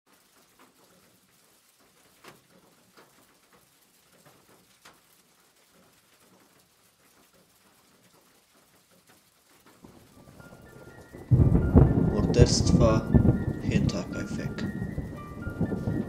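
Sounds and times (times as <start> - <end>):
rain hiss: 0.1 - 16.0
raindrops pattering: 0.1 - 16.0.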